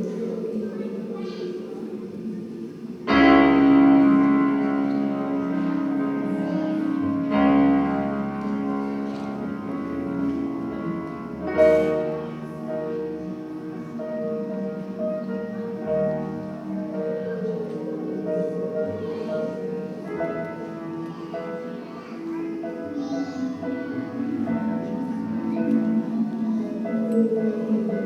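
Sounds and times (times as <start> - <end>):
keyboard chords: 3.0 - 28.0.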